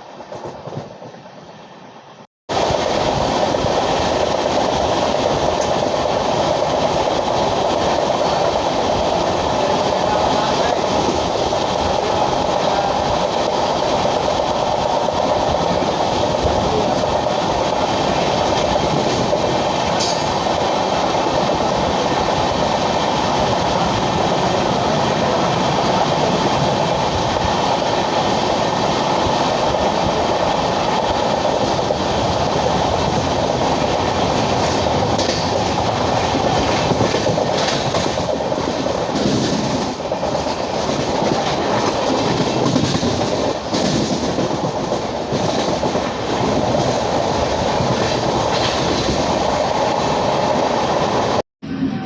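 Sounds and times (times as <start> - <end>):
train wheels running on rails: 0.0 - 52.0.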